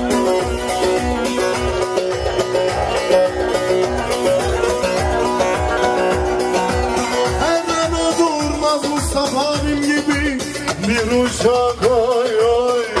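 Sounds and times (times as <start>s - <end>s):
long-necked lute plucking melody: 0.0s - 10.6s
steady beat: 0.0s - 13.0s.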